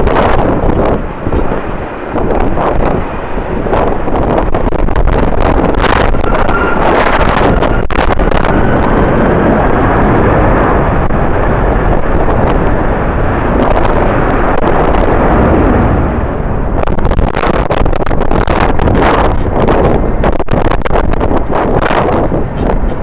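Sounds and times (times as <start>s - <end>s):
gusting wind buffeting microphone: 0.0s - 23.0s.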